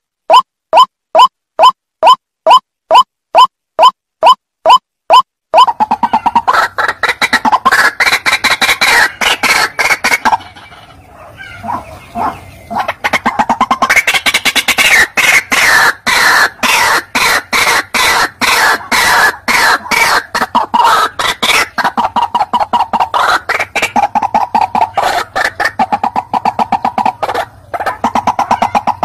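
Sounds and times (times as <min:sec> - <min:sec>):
waterhen croaking calls: 0:00.3 - 0:29.0.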